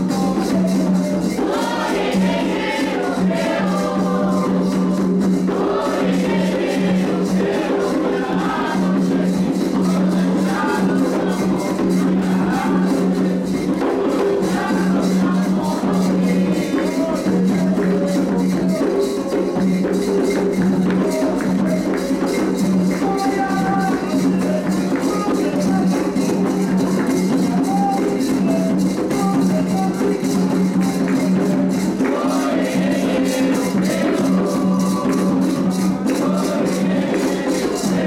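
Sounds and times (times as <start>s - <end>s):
hand drums beating fast rhythm: 0.0s - 38.0s
shaken percussion: 0.0s - 38.0s
voices singing a chant: 0.0s - 38.0s.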